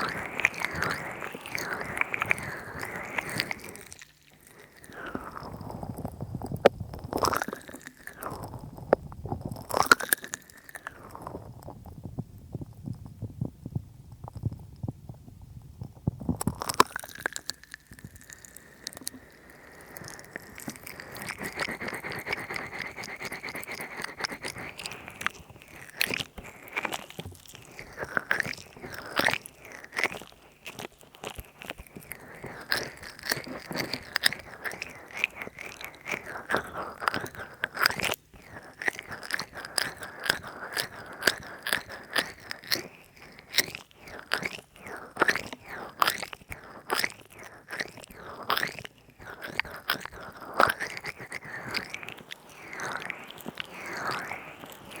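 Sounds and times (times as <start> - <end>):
oily hands rubbing and squelching: 0.0 - 12.0, 15.9 - 55.0.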